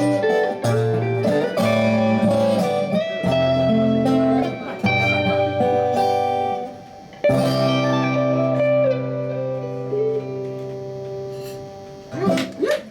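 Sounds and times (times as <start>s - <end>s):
guitar chord strummed: 0.0s - 12.9s.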